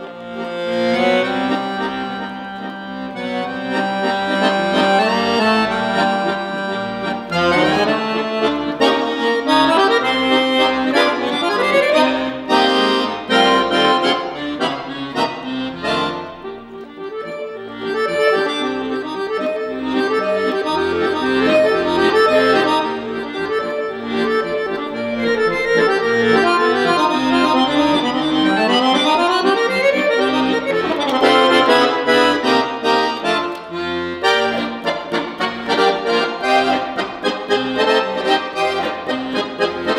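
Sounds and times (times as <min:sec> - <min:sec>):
piano accordion playing: 0:00.0 - 0:39.9.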